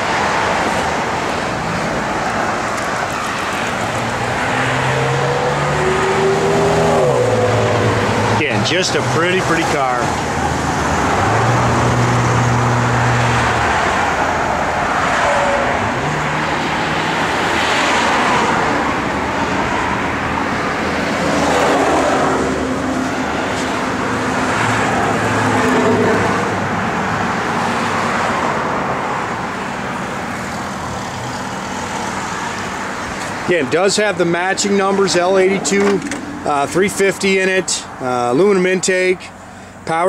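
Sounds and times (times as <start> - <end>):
traffic engines running: 0.0 - 40.0.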